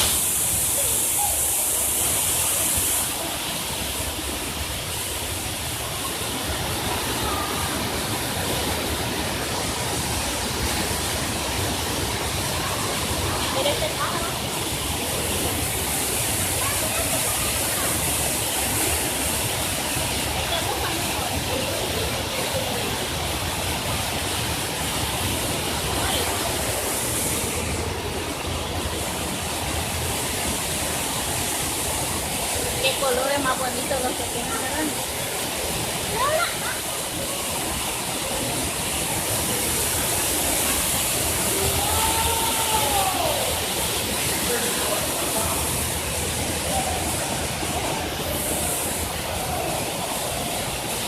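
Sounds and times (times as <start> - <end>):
rushing water: 0.0 - 51.0.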